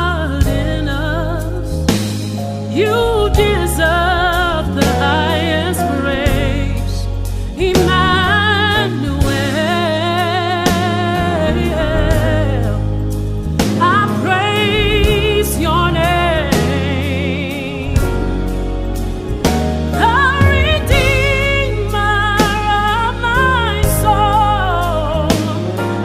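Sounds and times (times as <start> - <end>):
bass and keyboard notes: 0.0 - 26.0
light percussion: 0.4 - 26.0
gospel singing: 2.7 - 26.0.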